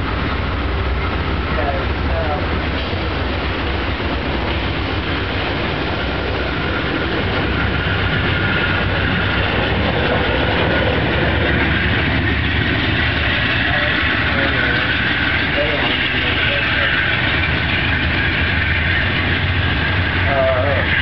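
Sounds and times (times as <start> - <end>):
train coaches passing at speed: 0.0 - 21.0.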